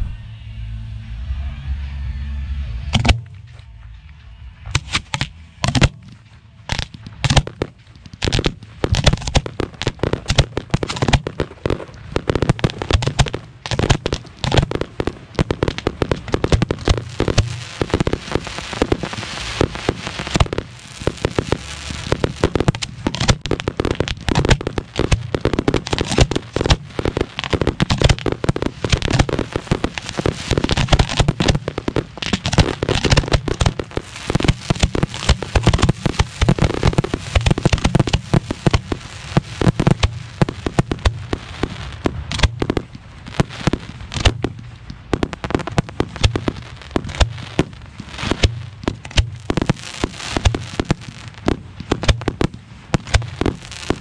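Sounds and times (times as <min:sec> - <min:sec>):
fireworks bursting: 0:02.8 - 0:03.6, 0:04.7 - 0:54.0.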